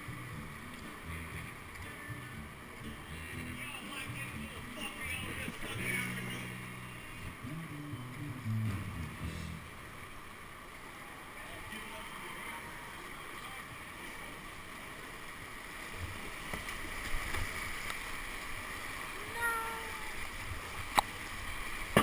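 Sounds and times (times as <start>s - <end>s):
low steady tones: 0.0s - 22.0s
whitewater rushing: 0.0s - 22.0s.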